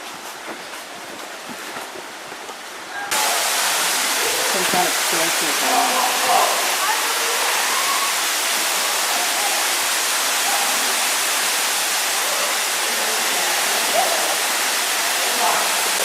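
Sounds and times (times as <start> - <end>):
waterfall rushing: 3.1 - 16.0.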